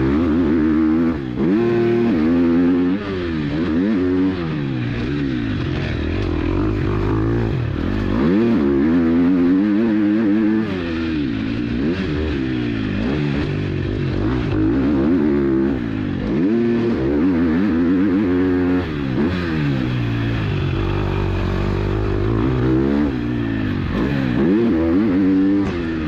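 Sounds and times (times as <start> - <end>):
motocross engine revving: 0.0 - 26.0.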